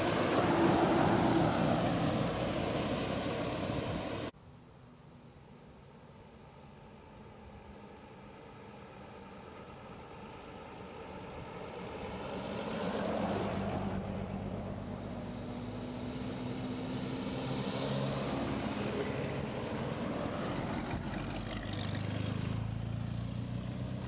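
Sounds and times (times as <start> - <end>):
vintage car engines passing: 0.0 - 4.3, 6.2 - 24.0.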